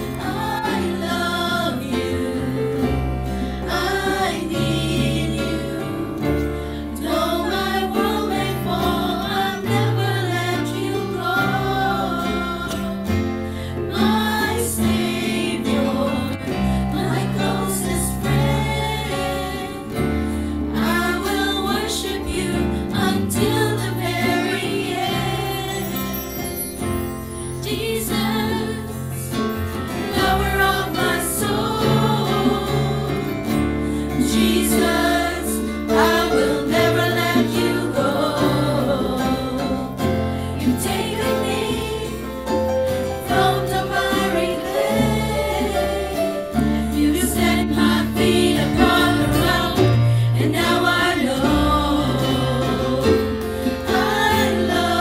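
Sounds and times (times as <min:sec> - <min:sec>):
women singing worship song: 0:00.0 - 0:26.2, 0:27.6 - 0:55.0
live band with bass and guitar: 0:00.0 - 0:55.0.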